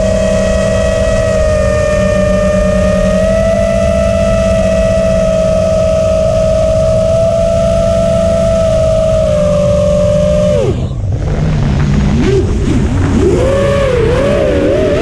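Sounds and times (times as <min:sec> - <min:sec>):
drone motors high whine: 0:00.0 - 0:15.0
wind rumble on microphone: 0:00.0 - 0:15.0.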